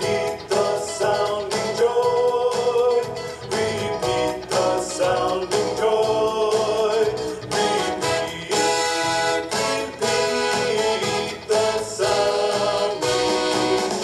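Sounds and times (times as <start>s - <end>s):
christmas song with band: 0.0s - 14.0s.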